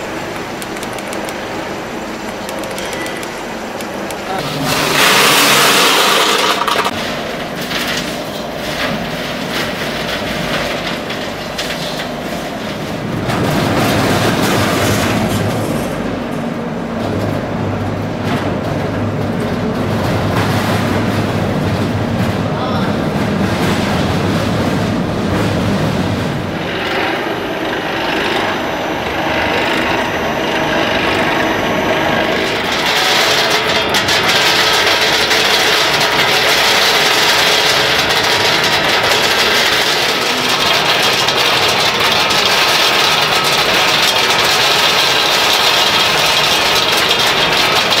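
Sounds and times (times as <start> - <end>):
roaster machinery running: 0.0 - 48.0.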